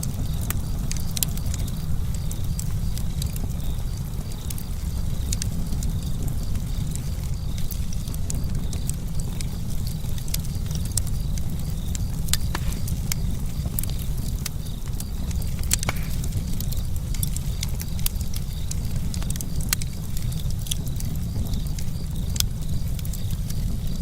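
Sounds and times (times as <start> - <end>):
campfire wood crackling and popping: 0.0 - 24.0
low fire rumble: 0.0 - 24.0.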